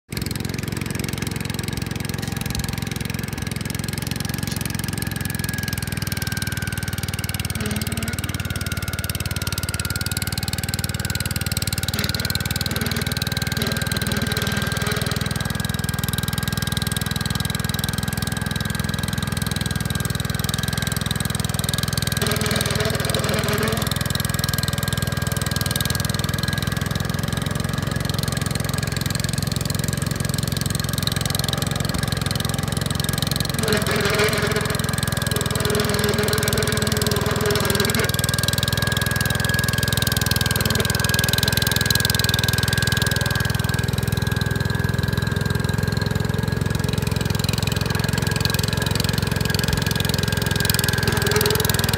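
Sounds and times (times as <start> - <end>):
tractor engine running: 0.1 - 51.9.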